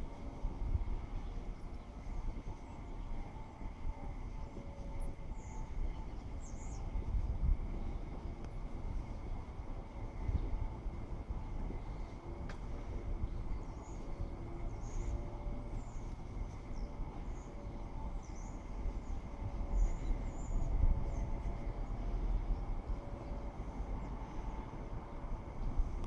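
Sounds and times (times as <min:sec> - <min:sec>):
electric train rumbling: 0:00.0 - 0:26.0
faint steady hum: 0:00.0 - 0:26.0.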